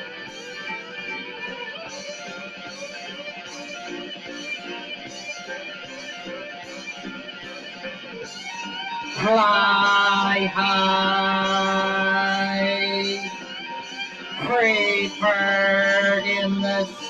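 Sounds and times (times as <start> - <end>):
electric guitar melody: 0.0 - 17.0
rock band backing: 0.0 - 17.0.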